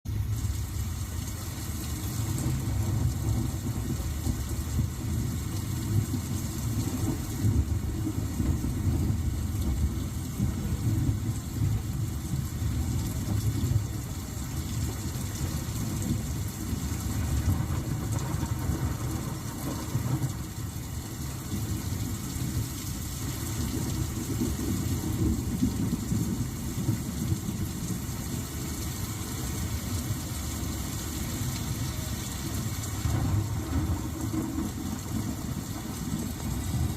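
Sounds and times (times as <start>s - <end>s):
rain hissing: 0.1s - 36.9s.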